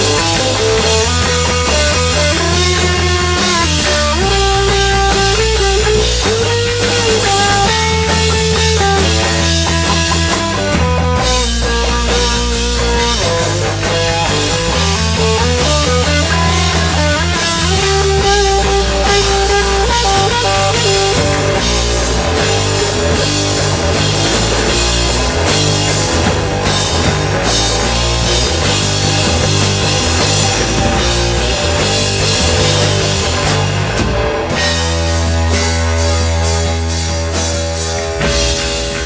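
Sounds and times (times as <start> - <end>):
bass guitar: 0.0 - 39.0
drum kit: 0.0 - 39.0
electric guitar: 0.0 - 39.0.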